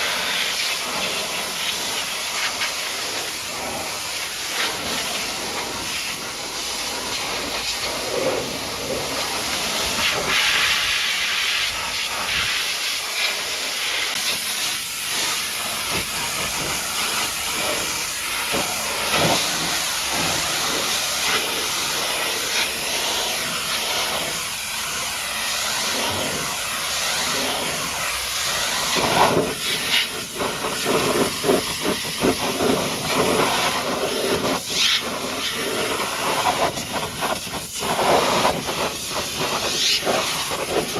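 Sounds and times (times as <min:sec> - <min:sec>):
high-pressure water jet spraying: 0:00.0 - 0:40.9.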